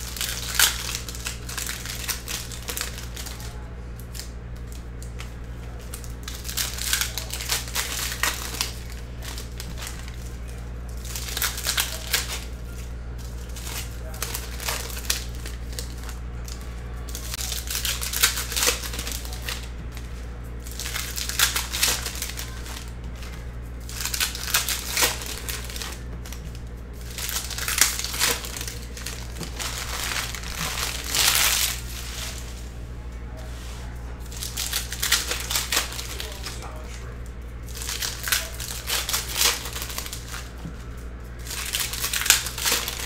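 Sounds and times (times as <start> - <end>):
foil wrappers crinkling and tearing: 0.0 - 33.5, 34.2 - 43.0
steady low hum: 0.0 - 43.0.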